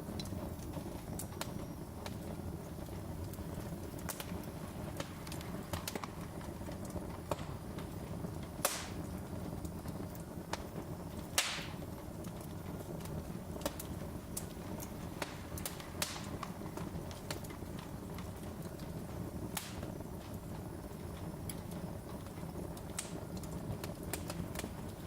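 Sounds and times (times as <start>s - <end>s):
low rumble of fire: 0.0s - 25.0s
wood fire crackling: 0.0s - 25.0s.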